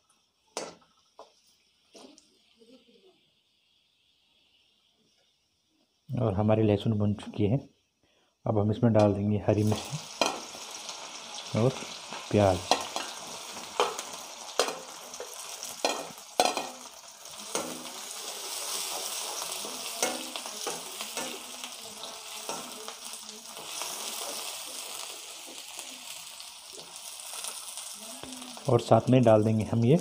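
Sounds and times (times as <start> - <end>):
onions sizzling in hot oil: 0.0 - 6.6, 9.0 - 30.0.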